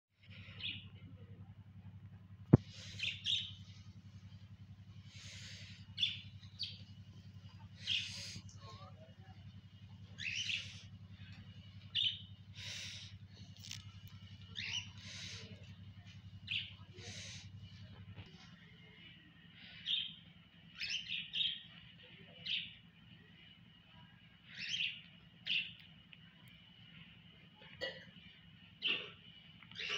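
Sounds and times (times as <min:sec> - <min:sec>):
small birds chirping: 0:00.2 - 0:27.4, 0:28.2 - 0:29.9
low hum: 0:00.2 - 0:28.8.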